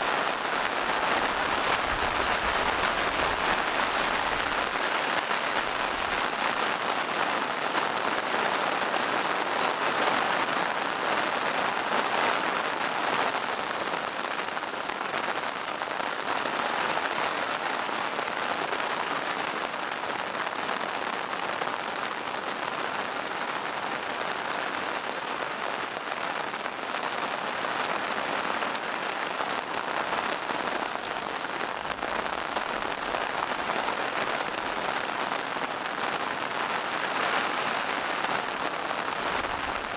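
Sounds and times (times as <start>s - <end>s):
rain hissing on leaves: 0.0s - 39.9s.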